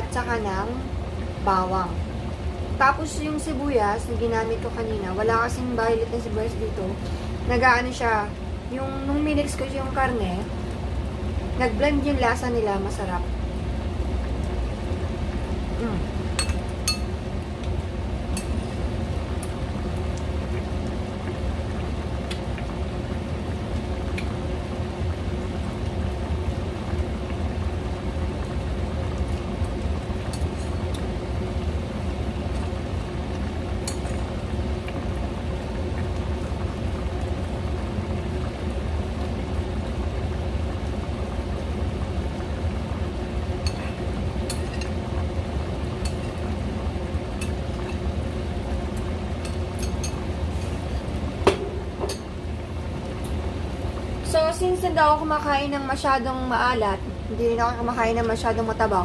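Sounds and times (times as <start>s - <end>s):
pot bubbling at a boil: 0.0s - 59.0s
steady low hum: 0.0s - 59.0s.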